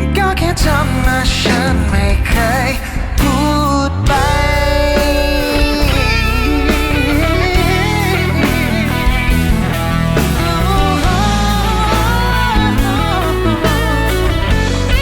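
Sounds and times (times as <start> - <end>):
lead guitar melody: 0.0 - 15.0
rock band playing: 0.0 - 15.0.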